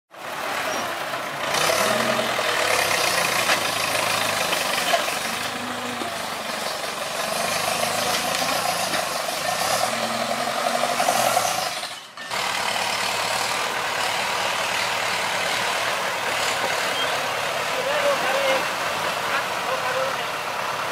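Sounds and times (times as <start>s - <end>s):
tractor engine revving: 0.1s - 20.9s.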